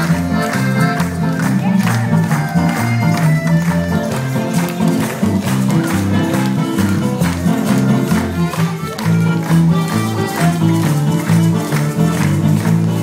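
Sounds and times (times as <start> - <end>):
accordion chords: 0.0 - 13.0
strummed guitars: 0.0 - 13.0.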